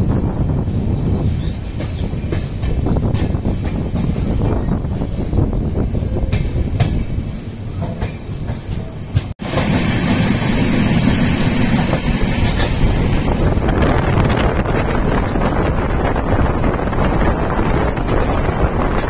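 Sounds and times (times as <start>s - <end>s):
wind noise on microphone: 0.0s - 7.4s, 10.9s - 19.0s
train wheels rumbling on rails: 0.0s - 19.0s.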